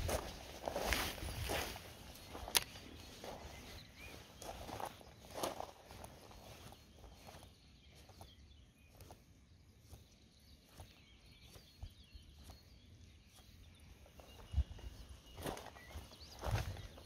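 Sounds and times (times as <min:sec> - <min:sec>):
faint birdsong: 0:00.0 - 0:17.0
faint footsteps: 0:00.0 - 0:17.0.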